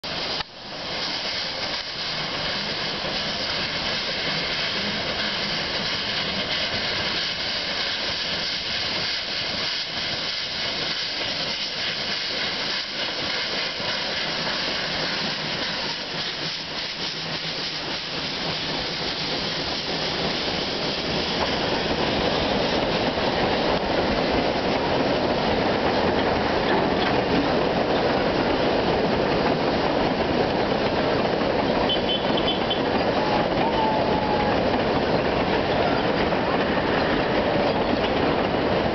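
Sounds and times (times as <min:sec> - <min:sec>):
steam hissing: 0:00.0 - 0:38.9.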